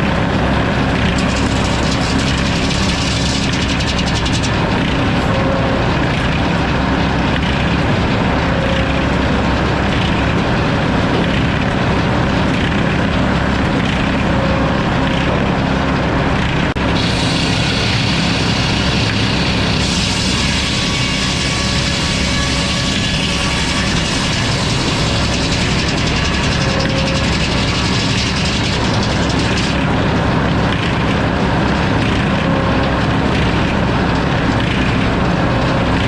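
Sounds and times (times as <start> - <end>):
sawmill drone: 0.0 - 36.0.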